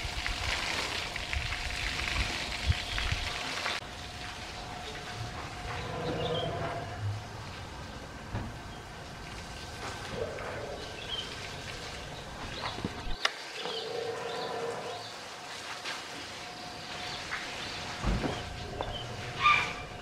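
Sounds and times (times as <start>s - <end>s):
water spraying from hose: 0.0s - 6.4s, 8.9s - 20.0s.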